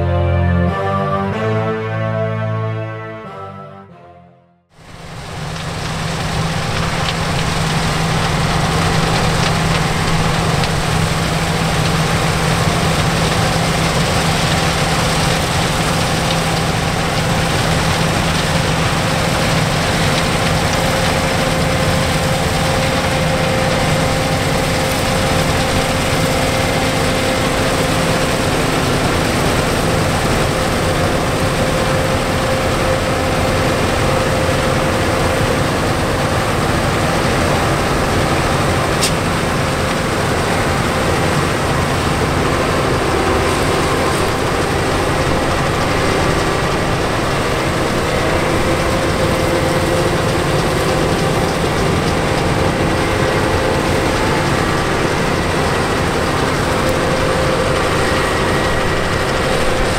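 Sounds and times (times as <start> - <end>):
combine harvester running: 4.7 - 59.9.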